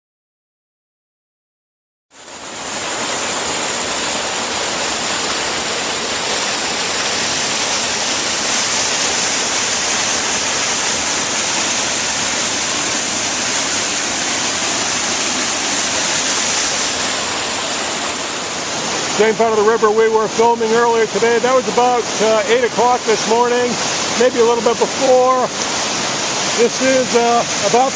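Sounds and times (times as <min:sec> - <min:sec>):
stream rushing: 0:02.1 - 0:27.9.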